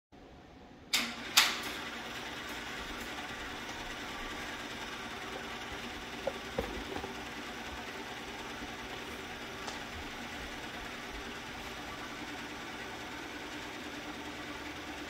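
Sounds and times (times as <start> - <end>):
film projector running: 1.0 - 15.0.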